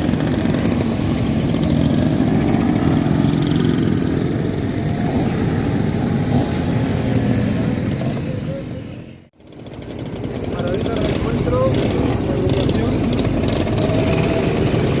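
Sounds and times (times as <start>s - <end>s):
scooter and motorcycle engines droning: 0.0s - 15.0s.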